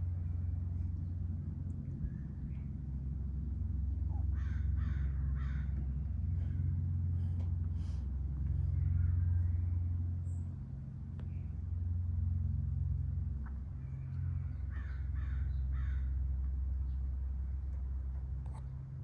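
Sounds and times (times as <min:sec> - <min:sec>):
ceiling fan motor humming: 0:00.0 - 0:19.0.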